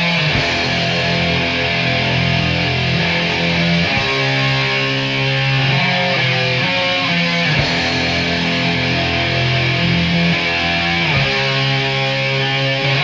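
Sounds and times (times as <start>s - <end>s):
heavy rock music: 0.0s - 13.0s.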